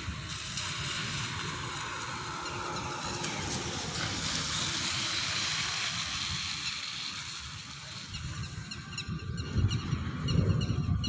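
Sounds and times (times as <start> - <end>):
steady rain hiss: 0.0 - 9.0
low rumble: 0.0 - 11.0.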